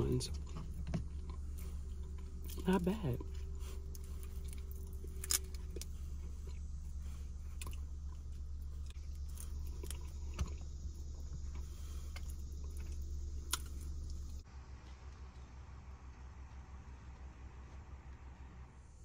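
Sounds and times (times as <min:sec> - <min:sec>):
person chewing peanuts: 0:00.0 - 0:16.5
low hum: 0:00.0 - 0:19.0.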